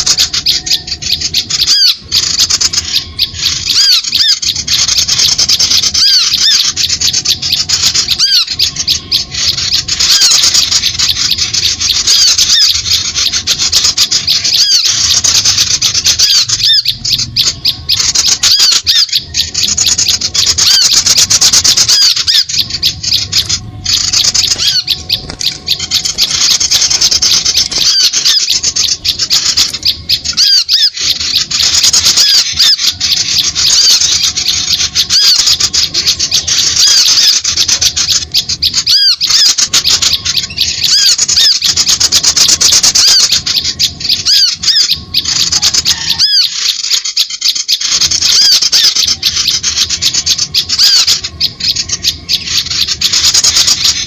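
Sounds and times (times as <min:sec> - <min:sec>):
many small birds chirping: 0:00.0 - 0:54.0.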